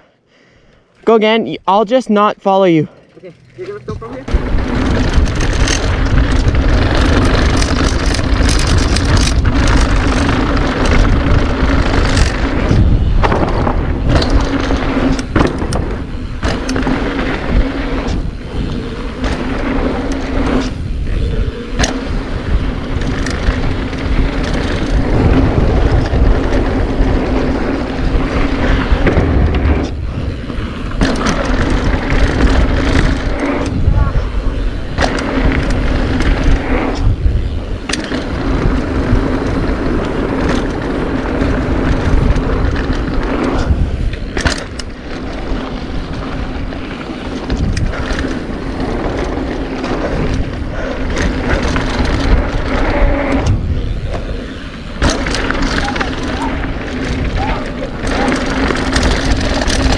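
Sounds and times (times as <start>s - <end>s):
bike tyres rolling on dirt: 0.3s - 59.9s
wind rushing over microphone: 3.4s - 59.9s.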